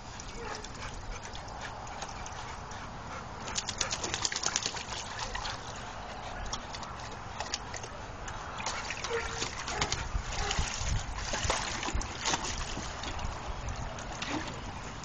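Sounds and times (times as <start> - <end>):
dogs drinking water: 0.0 - 15.0
water splashing in a wading pool: 0.0 - 15.0.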